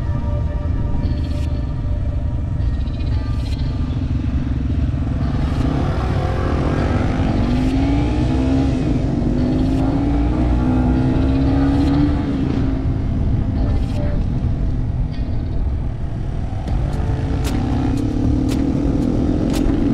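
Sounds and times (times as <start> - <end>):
low rumble: 0.0 - 19.9
motorcycle engine accelerating: 0.0 - 19.9.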